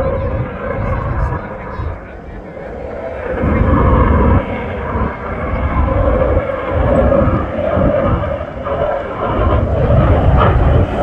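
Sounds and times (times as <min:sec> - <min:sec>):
aircraft engines rumbling overhead: 0:00.0 - 0:11.0.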